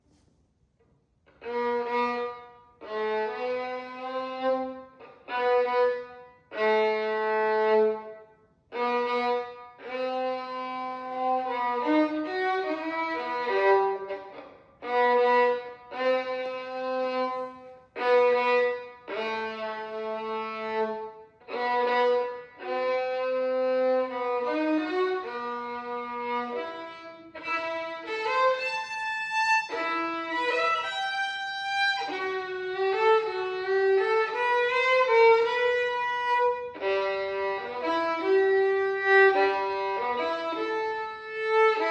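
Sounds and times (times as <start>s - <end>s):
solo violin melody: 1.3s - 41.9s.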